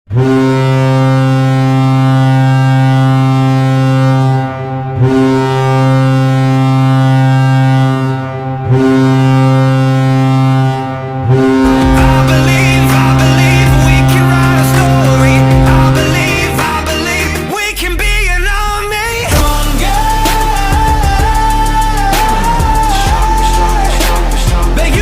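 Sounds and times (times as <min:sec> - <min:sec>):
hockey goal horn blasts: 0:00.1 - 0:18.2, 0:19.3 - 0:24.8
goal song music: 0:00.1 - 0:25.0.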